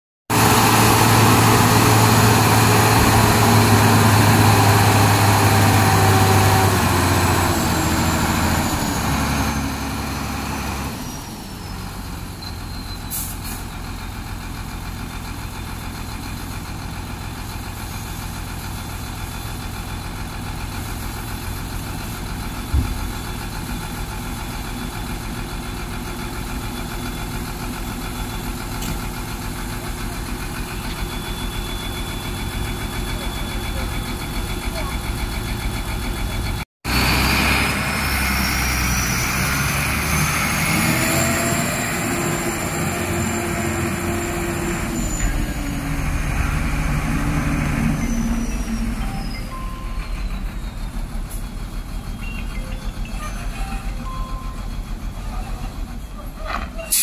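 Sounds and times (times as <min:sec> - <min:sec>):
diesel truck engine revving: 0:00.3 - 0:56.2.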